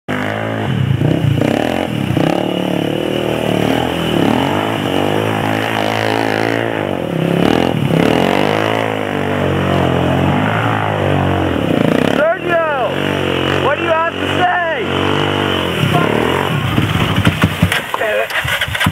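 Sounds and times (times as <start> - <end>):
atv engine revving: 0.1 - 18.9.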